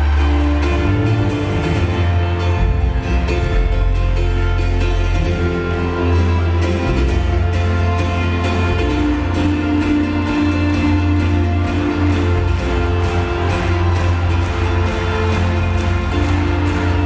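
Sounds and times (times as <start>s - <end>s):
booming double bass: 0.0s - 17.0s
live band music through pa: 0.0s - 17.0s
strummed acoustic guitar: 0.0s - 17.0s.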